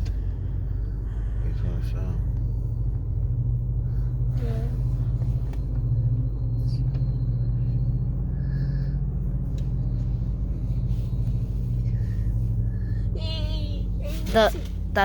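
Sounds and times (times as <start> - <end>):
diesel locomotive rumbling: 0.0 - 15.0.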